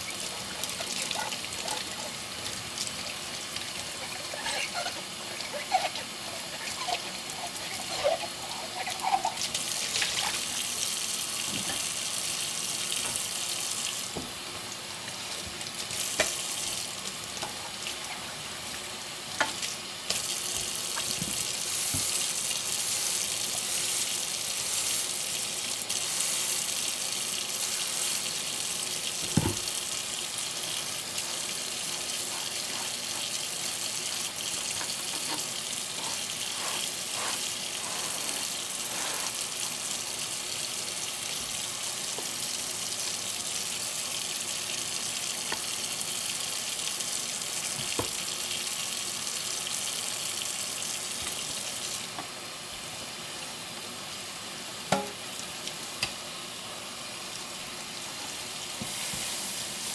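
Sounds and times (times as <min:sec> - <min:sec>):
tap water running into sink: 0:00.0 - 0:52.4.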